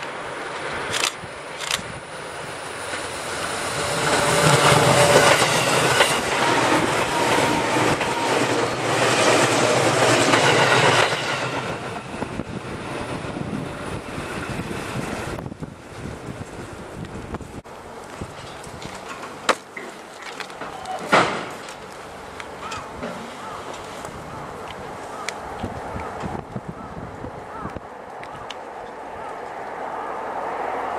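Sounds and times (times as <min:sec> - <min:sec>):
train wheels rumbling over rails: 0:00.0 - 0:30.9.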